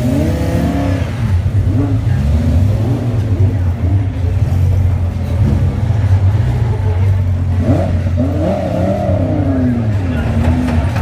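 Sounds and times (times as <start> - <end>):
engine revving: 0.0 - 11.0
race car engines low rumble: 0.0 - 11.0.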